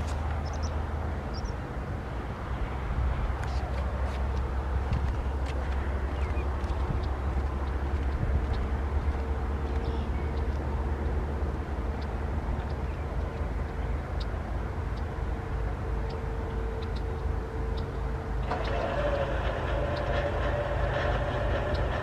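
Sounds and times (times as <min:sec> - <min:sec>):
diesel freight train rumbling: 0:00.0 - 0:22.0.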